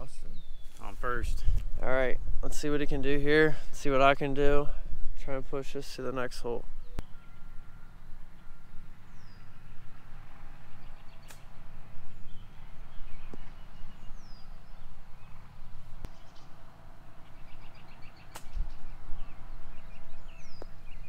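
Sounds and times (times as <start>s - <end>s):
birds chirping: 0.0s - 1.6s, 2.5s - 21.0s
wind rumbling on microphone: 0.0s - 7.1s, 8.0s - 16.6s, 17.2s - 21.0s.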